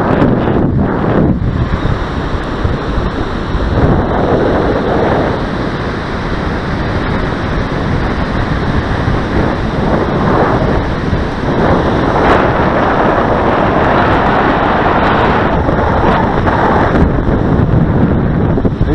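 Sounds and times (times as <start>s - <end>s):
surf on beach: 0.0s - 18.9s
wind buffeting microphone: 0.0s - 18.9s.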